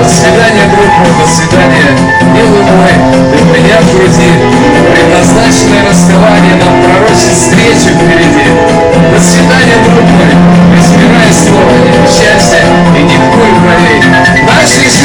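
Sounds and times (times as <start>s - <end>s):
backing track through a speaker: 0.0s - 15.0s
man singing into a microphone: 0.0s - 15.0s.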